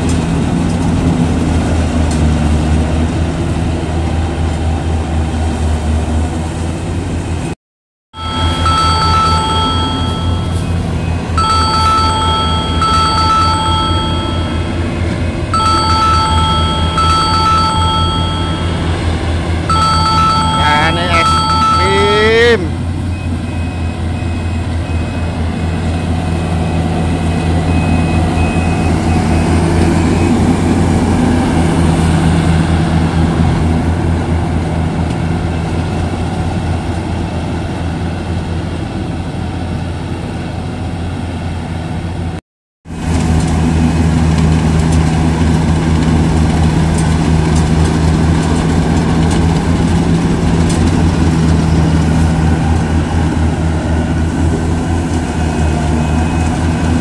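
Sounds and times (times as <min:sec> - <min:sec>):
combine harvester diesel engine: 0:00.0 - 0:07.5, 0:08.2 - 0:57.0.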